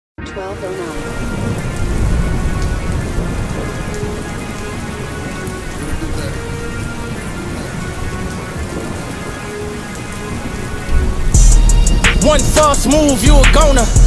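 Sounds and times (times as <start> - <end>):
rain falling: 0.2 - 14.0
thunder rumble: 0.3 - 14.0.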